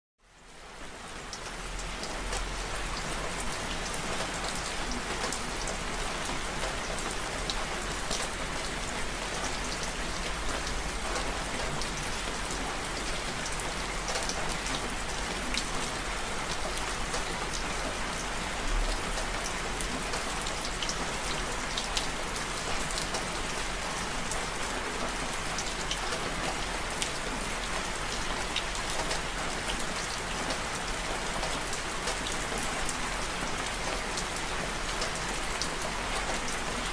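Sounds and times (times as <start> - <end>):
steady rain falling: 0.2 - 36.9.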